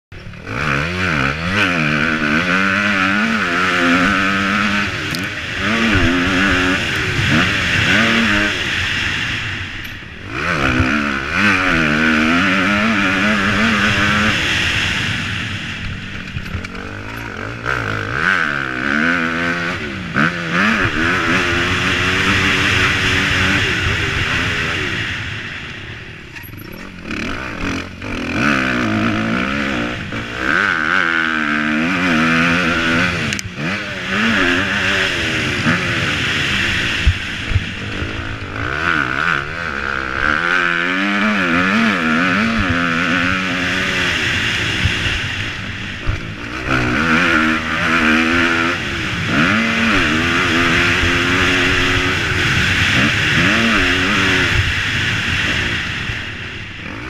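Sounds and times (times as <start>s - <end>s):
dirt bike engine revving: 0.1s - 57.0s.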